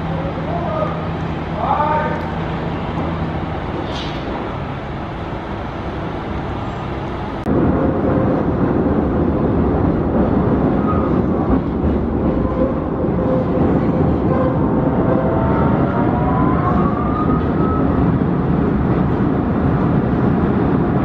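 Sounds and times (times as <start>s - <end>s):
train rumble from inside car: 0.0s - 21.0s.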